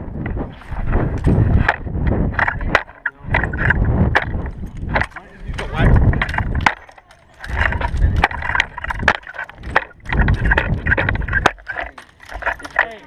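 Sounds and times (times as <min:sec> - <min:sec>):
rumbling gusts of air rush: 0:00.0 - 0:06.7, 0:07.5 - 0:12.5.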